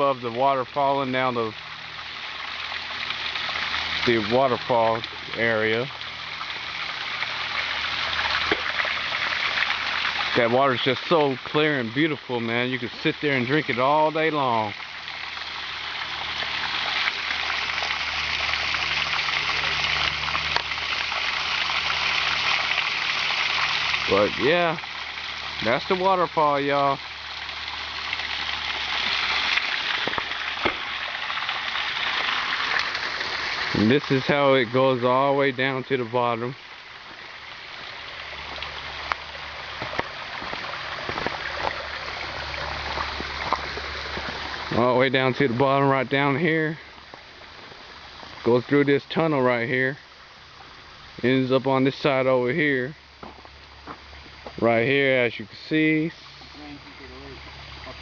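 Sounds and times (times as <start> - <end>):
waterfall rushing and splashing: 0.0 - 49.0.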